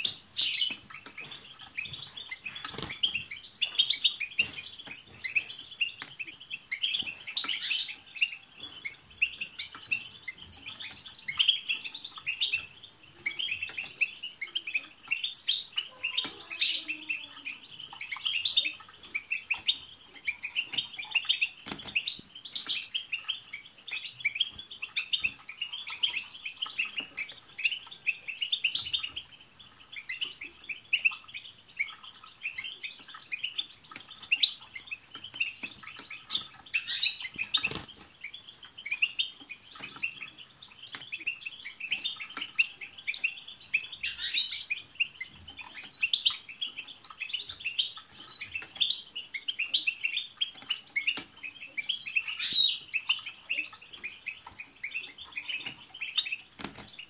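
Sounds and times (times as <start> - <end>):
finches twittering: 0.0 - 57.0.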